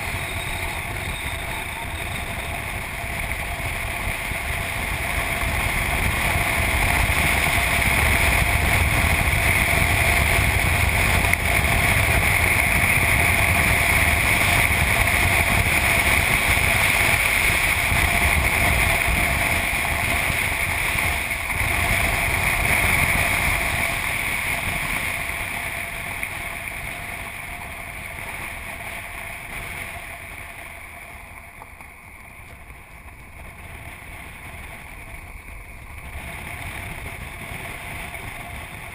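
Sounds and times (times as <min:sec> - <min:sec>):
car engine: 0:00.0 - 0:32.8.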